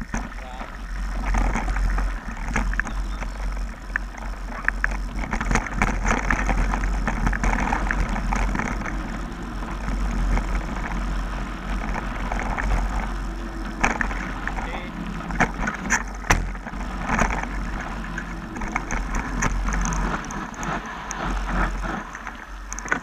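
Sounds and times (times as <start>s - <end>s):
bike rattling on dirt trail: 0.0s - 23.0s
clicks and knocks over bumps: 0.0s - 23.0s
wind rumbling on microphone: 0.0s - 23.0s.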